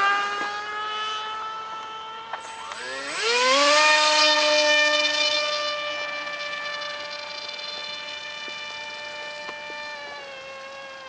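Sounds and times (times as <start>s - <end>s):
electric motor and propeller whining: 0.0s - 11.0s.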